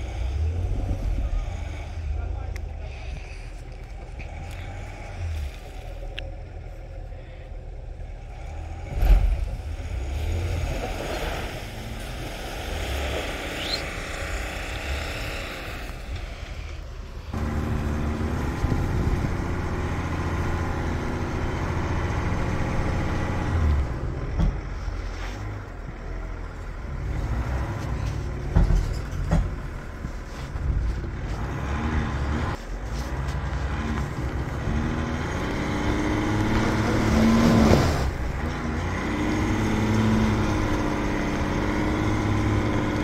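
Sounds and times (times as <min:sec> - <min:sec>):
pickup truck engines revving: 0:00.0 - 0:07.1, 0:07.7 - 0:43.0
engine running close by: 0:00.0 - 0:43.0.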